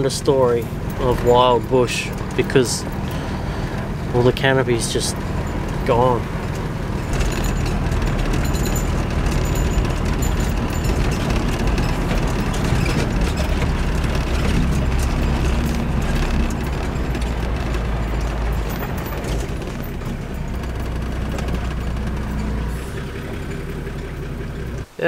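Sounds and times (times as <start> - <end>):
knocks and rattles from bumps: 0.0 - 24.9
engine and tyre rumble: 0.0 - 25.0.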